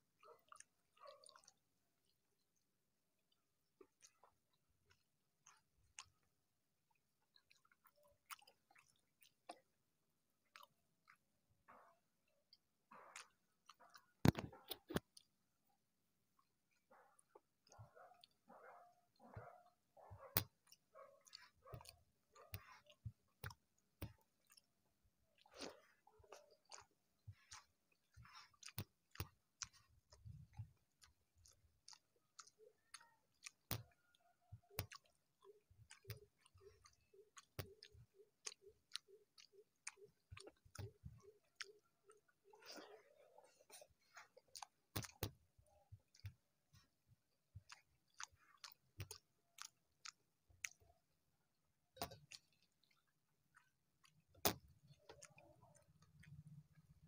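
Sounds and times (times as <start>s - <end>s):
person chewing food: 0.0s - 57.0s
wet mouth clicks and lip smacks: 0.2s - 1.7s, 3.7s - 6.3s, 7.2s - 9.8s, 10.4s - 15.4s, 16.4s - 18.4s, 19.2s - 51.2s, 51.8s - 57.0s.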